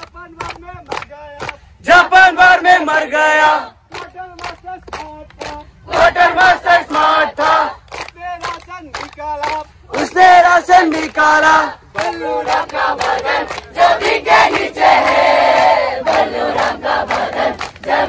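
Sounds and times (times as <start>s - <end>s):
rhythmic hand clapping: 0.0s - 18.0s
group chanting in shouted bursts: 1.5s - 8.6s, 9.4s - 18.0s.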